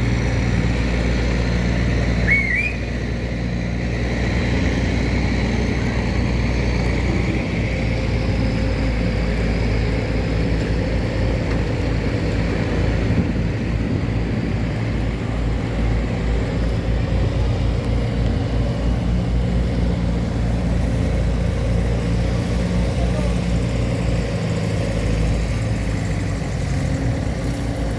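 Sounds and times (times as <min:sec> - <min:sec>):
boat diesel engine droning: 0:00.0 - 0:27.9.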